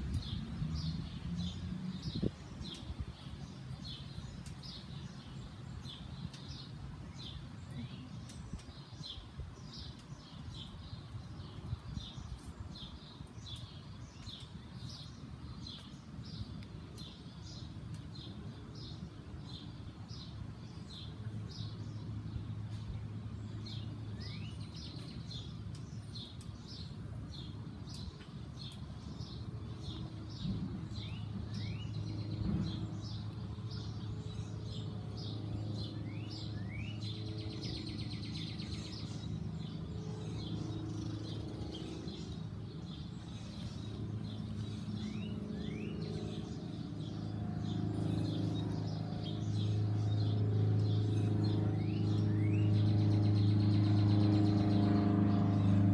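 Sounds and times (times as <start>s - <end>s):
low engine hum: 0.0s - 55.9s
small birds chirping: 0.0s - 55.9s.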